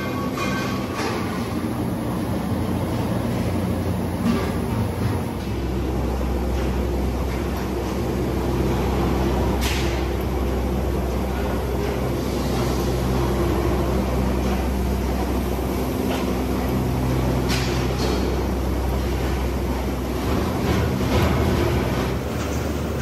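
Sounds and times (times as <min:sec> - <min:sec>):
continuous spray hiss: 0:00.0 - 0:23.0
machinery low hum: 0:00.0 - 0:23.0.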